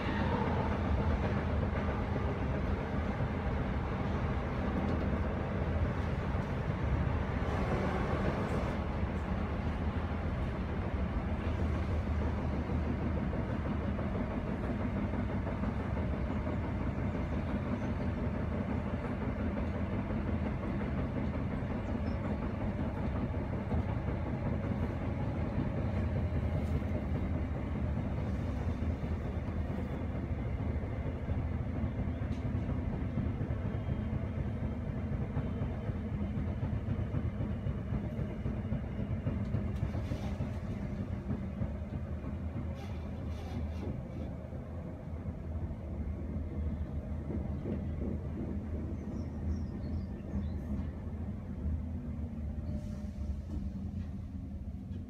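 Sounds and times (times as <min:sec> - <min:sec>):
train traction equipment: 0:00.0 - 0:55.0
train wheels rumbling on rail: 0:00.0 - 0:55.0.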